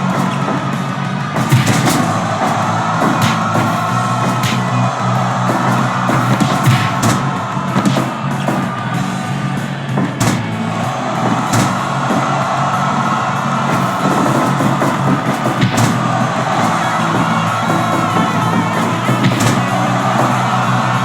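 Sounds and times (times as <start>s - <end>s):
rock music: 0.0s - 21.0s
sharp bangs: 0.0s - 21.0s.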